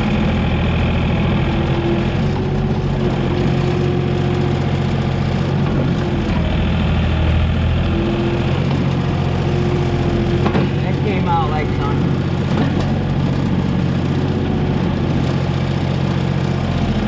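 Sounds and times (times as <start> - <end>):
steady whine: 0.0 - 16.4
excavator diesel engine running: 0.0 - 17.0.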